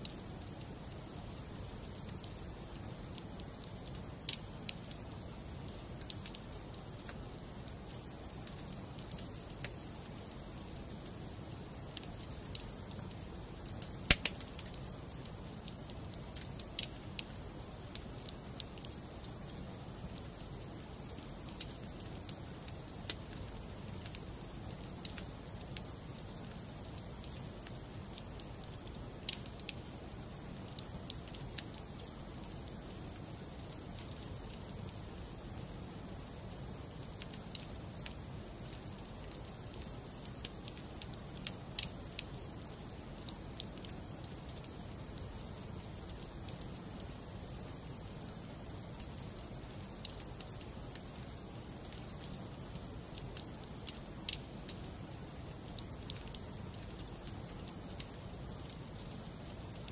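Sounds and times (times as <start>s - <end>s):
fire burning in a fireplace: 0.0s - 59.9s
logs crackling and popping: 0.0s - 59.9s.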